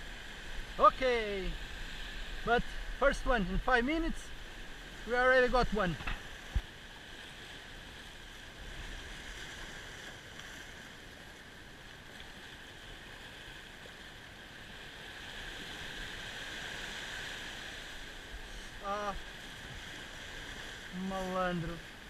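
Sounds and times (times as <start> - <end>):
sea surf washing over rocks: 0.0 - 22.0.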